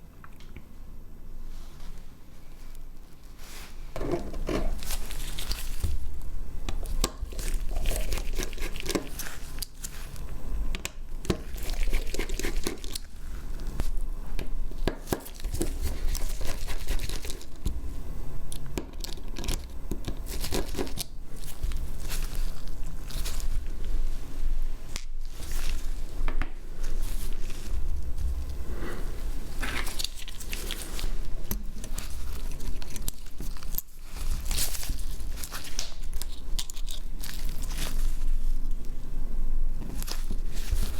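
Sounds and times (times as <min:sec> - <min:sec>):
crinkling and tearing: 0:02.7 - 0:10.4, 0:11.2 - 0:14.0, 0:14.8 - 0:17.8, 0:18.5 - 0:39.0, 0:39.8 - 0:40.9.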